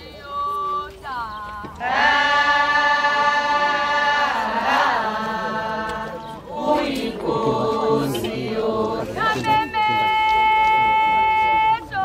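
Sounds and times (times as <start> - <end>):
voices singing held chant: 0.0 - 12.0.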